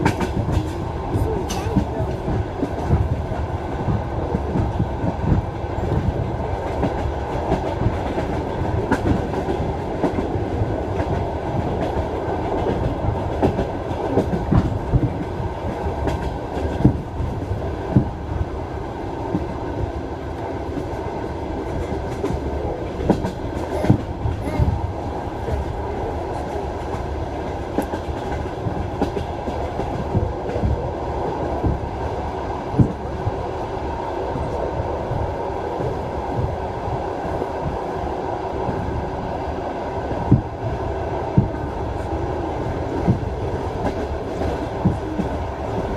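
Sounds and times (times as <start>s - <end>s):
train wheels clattering over rails: 0.0s - 38.0s, 40.0s - 45.9s.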